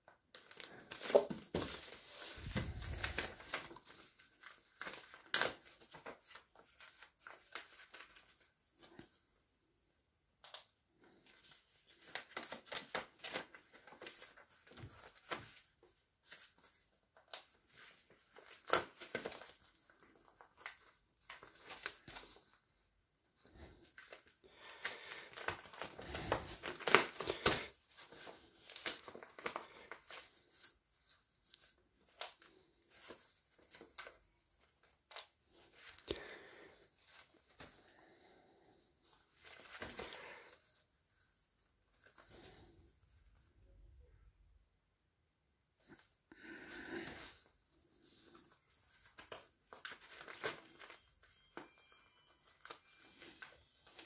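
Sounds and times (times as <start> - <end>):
paper sheets rustling: 0.4 - 9.2, 11.0 - 22.6, 23.4 - 38.0, 39.0 - 42.6, 45.8 - 54.0.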